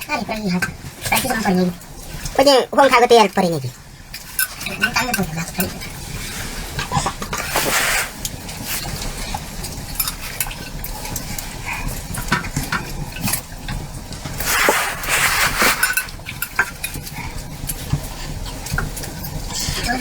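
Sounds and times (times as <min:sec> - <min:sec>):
pots and utensils clinking: 0:03.0 - 0:20.0.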